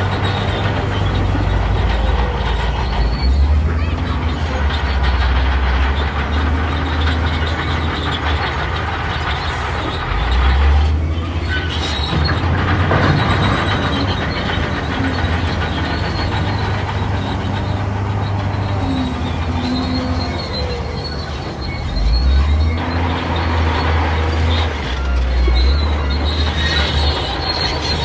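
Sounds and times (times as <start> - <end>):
bulldozer diesel engine droning: 0.0 - 28.0
steel tracks clattering: 0.0 - 28.0.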